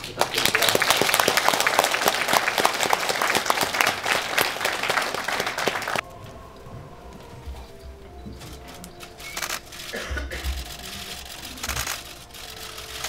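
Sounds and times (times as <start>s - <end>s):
audience applauding: 0.0s - 6.3s, 8.4s - 13.0s.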